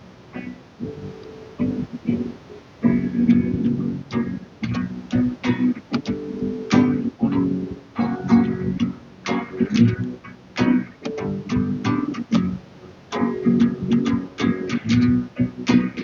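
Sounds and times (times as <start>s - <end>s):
song with plucked guitar and bass: 0.4s - 16.0s.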